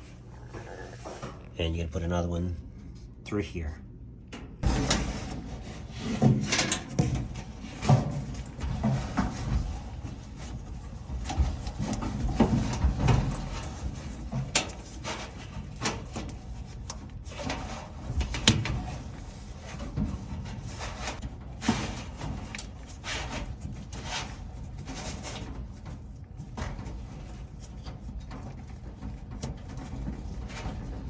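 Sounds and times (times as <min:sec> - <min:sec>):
clicks and knocks inside dryer: 0:04.3 - 0:31.0.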